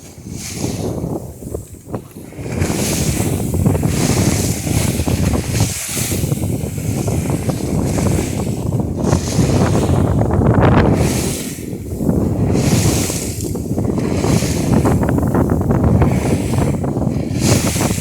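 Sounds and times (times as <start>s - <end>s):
water slapping along hull: 0.0s - 18.0s
wind buffeting microphone: 0.0s - 18.0s.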